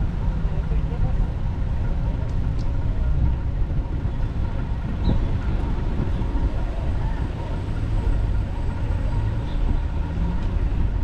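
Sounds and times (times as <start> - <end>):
city street traffic: 0.0 - 11.0
wind buffeting microphone: 0.9 - 11.0.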